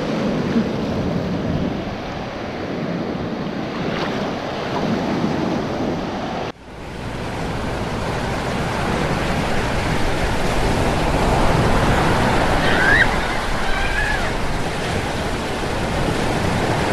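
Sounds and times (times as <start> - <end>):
ocean waves breaking on beach: 0.0 - 16.9.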